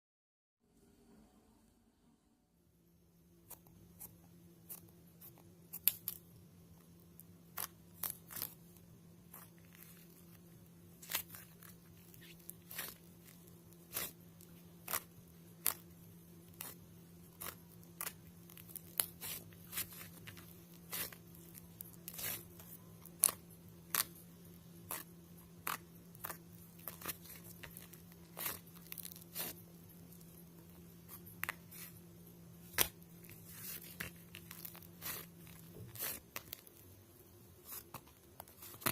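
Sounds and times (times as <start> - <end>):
steady low hum: 0.6 - 38.9
crisp snips and crackles: 3.4 - 6.3, 7.2 - 32.0, 32.6 - 36.9, 37.6 - 38.9.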